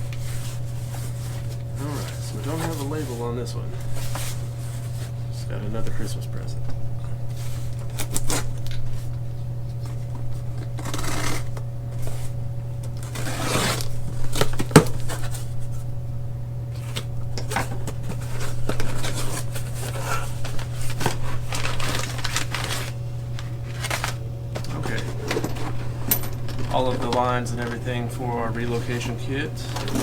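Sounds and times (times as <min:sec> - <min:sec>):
cardboard packaging rustling: 0:00.0 - 0:05.3, 0:07.3 - 0:15.9, 0:16.7 - 0:30.0
steady low hum: 0:00.0 - 0:30.0.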